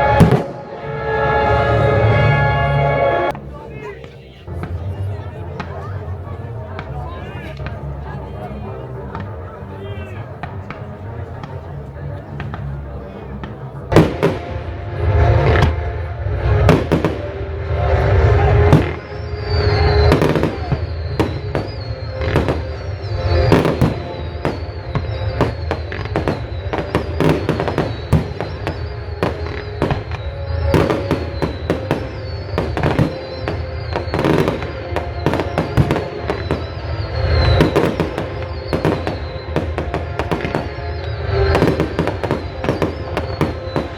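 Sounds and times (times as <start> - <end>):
fireworks bangs and crackles: 0.0 - 2.2, 3.3 - 43.9
music playing: 0.0 - 43.9.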